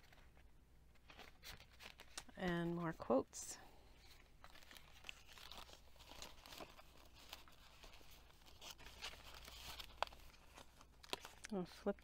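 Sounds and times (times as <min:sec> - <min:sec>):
paper pages rustling: 0:00.0 - 0:02.9, 0:04.0 - 0:11.6.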